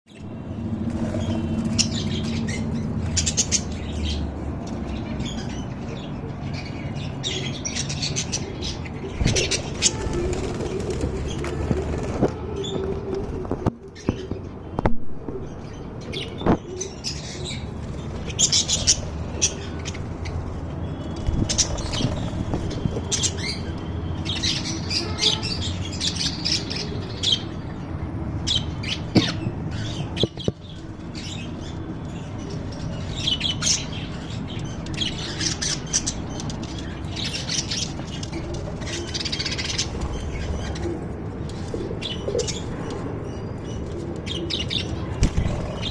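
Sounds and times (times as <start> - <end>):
birds squawking and chirping: 0.1 - 45.9.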